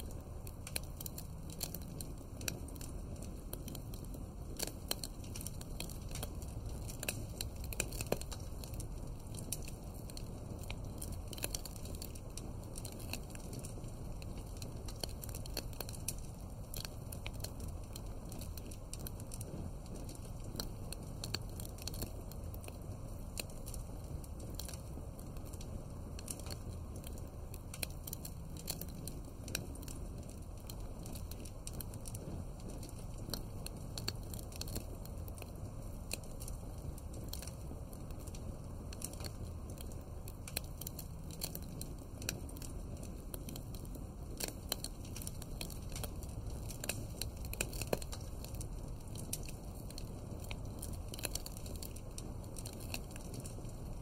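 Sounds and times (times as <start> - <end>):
flames rumbling: 0.0 - 54.0
wood fire crackling: 0.0 - 54.0.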